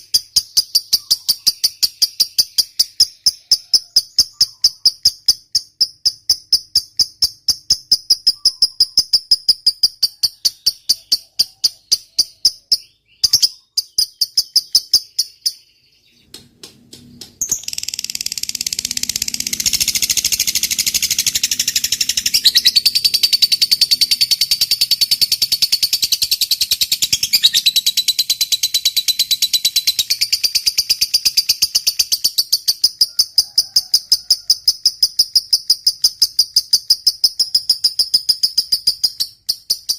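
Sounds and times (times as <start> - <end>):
bird chattering trill: 0.0 - 16.3, 17.4 - 39.9
bird high chirps: 0.0 - 16.4, 17.1 - 33.2.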